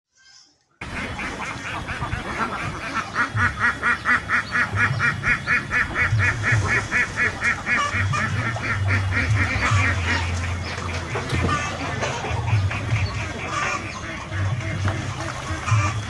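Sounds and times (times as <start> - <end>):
duck quacking: 0.8 - 16.0.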